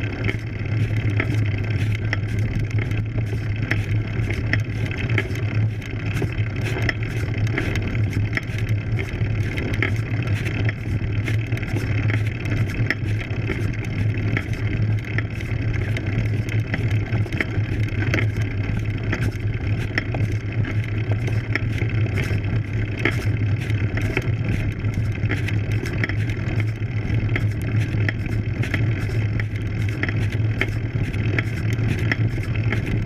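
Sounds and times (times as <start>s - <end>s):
bike tyres rumbling on dirt: 0.0s - 33.0s.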